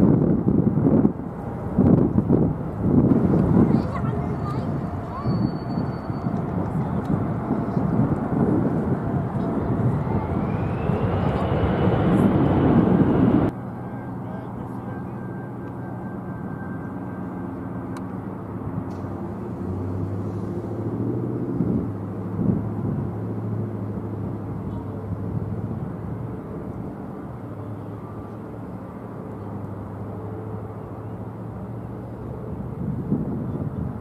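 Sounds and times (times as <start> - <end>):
jet engines droning: 0.0 - 34.0.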